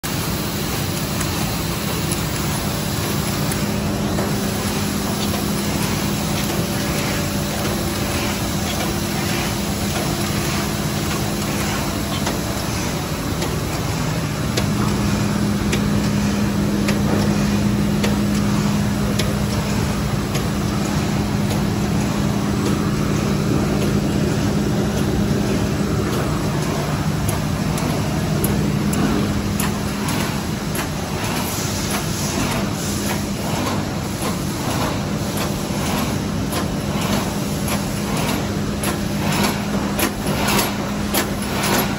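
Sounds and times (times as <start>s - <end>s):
machine mechanical hum: 0.0s - 41.9s.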